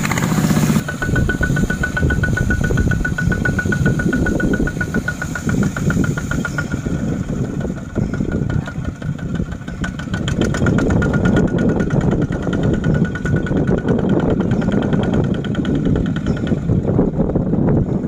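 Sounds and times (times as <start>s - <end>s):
diesel tractor engine under load: 0.0s - 18.0s.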